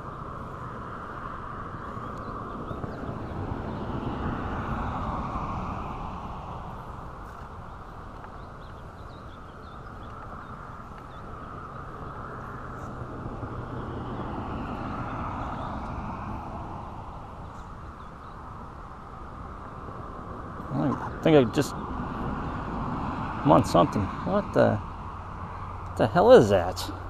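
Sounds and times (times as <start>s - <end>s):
low outdoor rumble: 0.0s - 27.0s.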